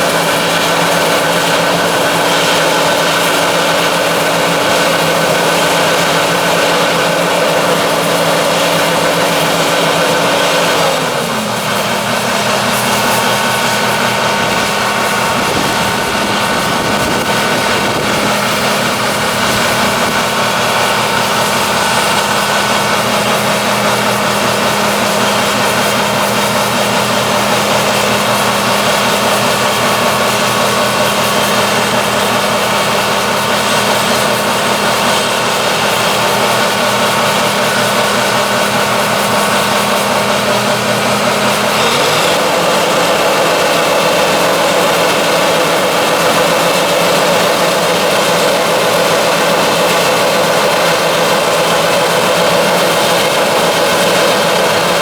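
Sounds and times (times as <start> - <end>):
combine diesel engine droning: 0.0 - 55.0.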